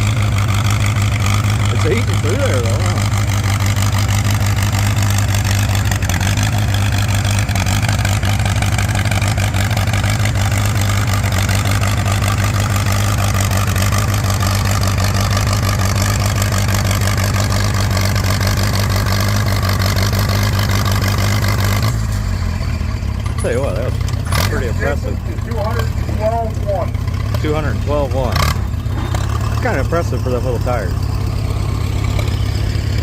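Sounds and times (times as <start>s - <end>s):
tractor engine running under load: 0.0s - 33.0s.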